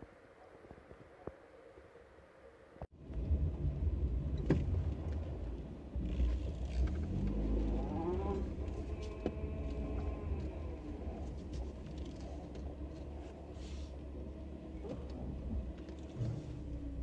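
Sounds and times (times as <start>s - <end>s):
car engine and road rumble: 0.1s - 17.0s.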